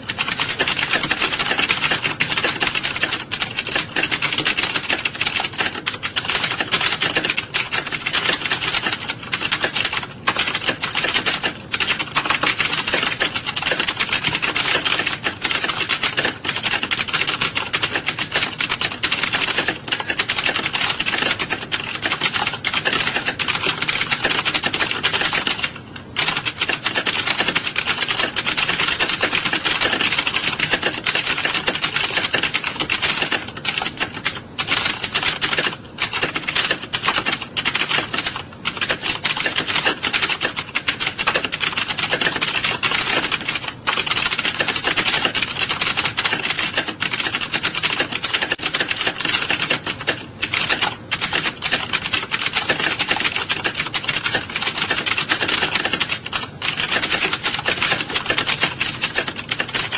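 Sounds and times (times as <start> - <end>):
many keyboards typing: 0.0 - 59.9.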